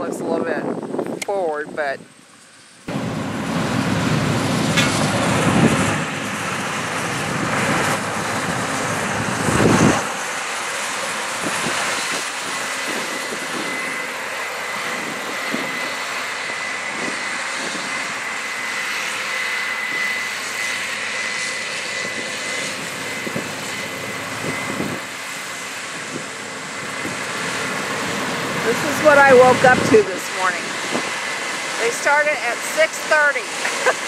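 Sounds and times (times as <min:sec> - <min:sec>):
combine harvester drone: 0:00.0 - 0:34.0.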